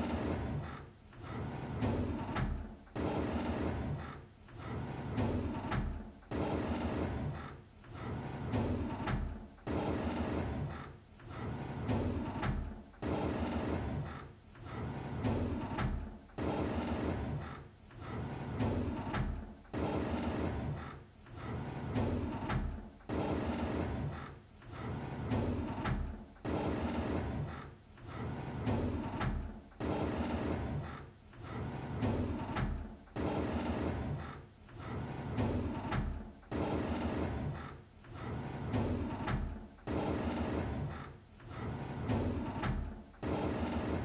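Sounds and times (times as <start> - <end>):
drawer sliding open: 0.0 - 44.0.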